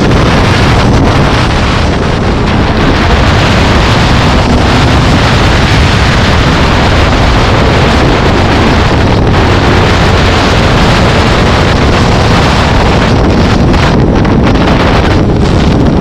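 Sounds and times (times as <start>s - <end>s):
engine running: 0.0s - 16.0s
road noise: 0.0s - 16.0s
wind buffeting microphone: 0.0s - 16.0s.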